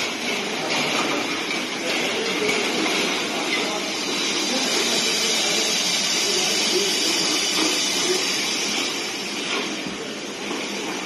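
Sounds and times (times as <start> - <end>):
packaging machine hiss: 0.0 - 11.0.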